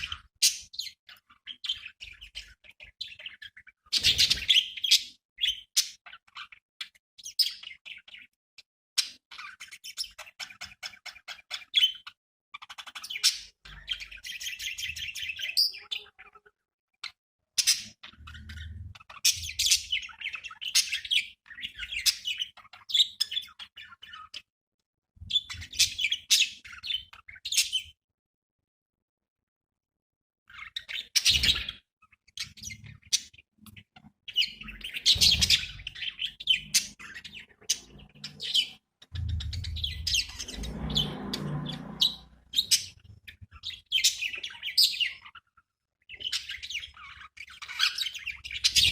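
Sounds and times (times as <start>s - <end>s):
budgerigars chirping and warbling: 0.0s - 8.4s, 9.0s - 24.5s, 25.2s - 28.0s, 30.5s - 48.9s.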